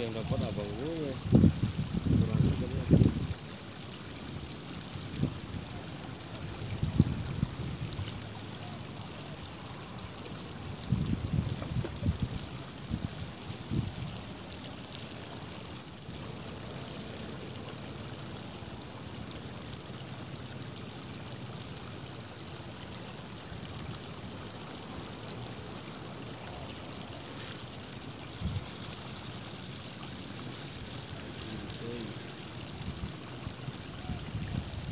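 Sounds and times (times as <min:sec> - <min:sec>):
rushing outdoor background noise: 0:00.0 - 0:34.9.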